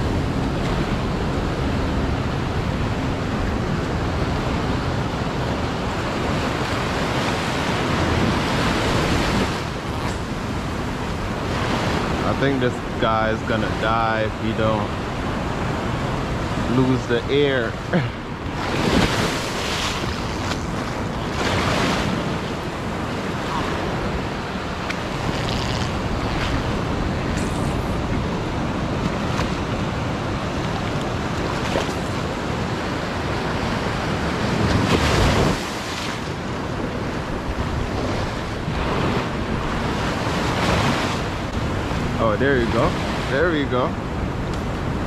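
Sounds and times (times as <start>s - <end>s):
small waves washing over sand: 0.0s - 45.0s.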